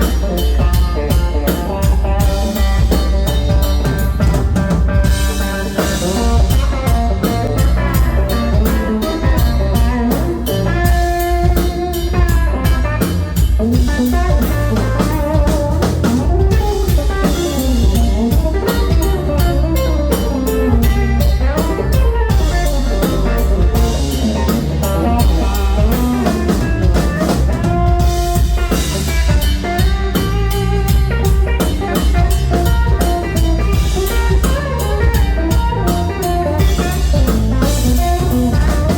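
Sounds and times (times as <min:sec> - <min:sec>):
blues-rock band playing: 0:00.0 - 0:38.9
electric guitar lines: 0:00.0 - 0:38.9
steady drum beat: 0:00.0 - 0:38.9.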